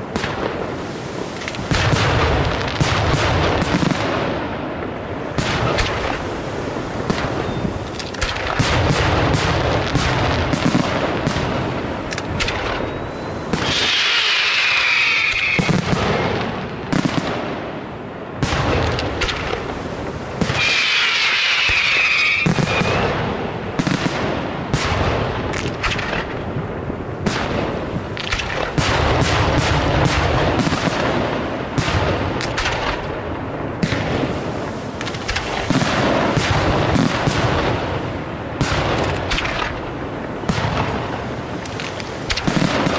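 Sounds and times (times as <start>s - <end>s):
fireworks bursting: 0.0s - 42.9s
high crackling hiss: 0.0s - 42.9s.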